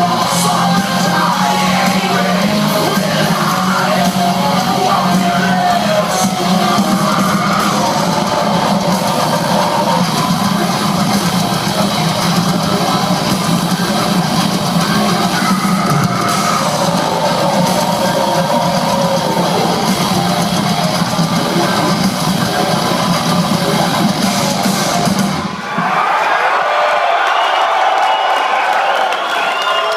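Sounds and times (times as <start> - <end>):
metal band playing live: 0.0 - 25.8.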